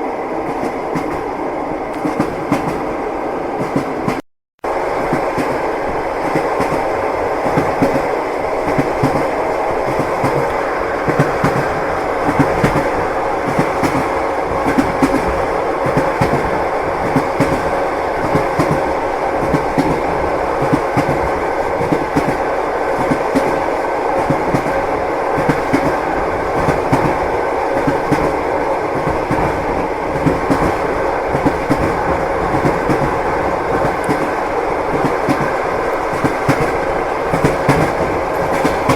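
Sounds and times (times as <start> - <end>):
continuous train rumble: 0.0 - 38.9
train wheels clattering over rails: 5.0 - 38.9.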